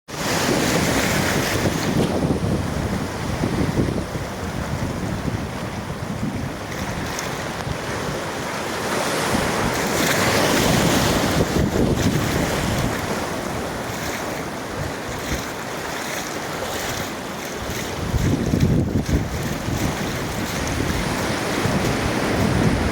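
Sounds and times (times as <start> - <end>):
surf rushing: 0.1 - 22.9
wind rumbling on microphone: 0.2 - 22.9.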